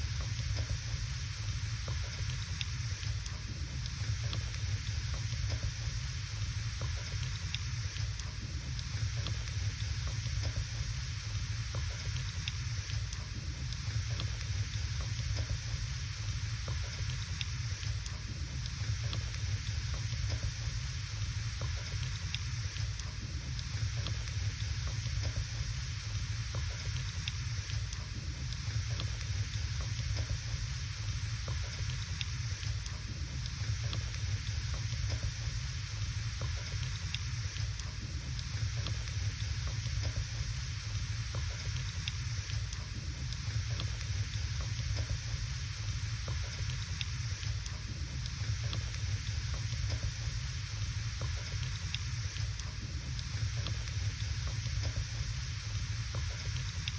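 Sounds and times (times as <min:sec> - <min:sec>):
fire crackles and pops: 0:00.0 - 0:56.9
wood fire hissing: 0:00.0 - 0:56.9.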